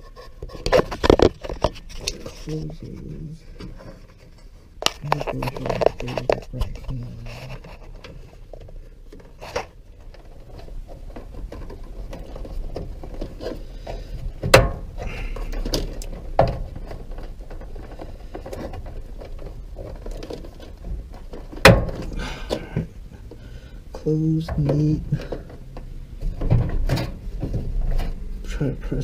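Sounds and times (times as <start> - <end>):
hands rustling and scraping plastic: 0.0 - 29.0.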